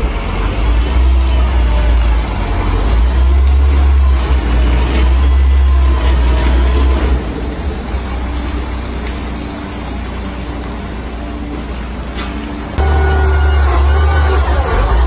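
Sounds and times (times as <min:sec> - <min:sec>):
truck engine low hum: 0:00.0 - 0:15.0.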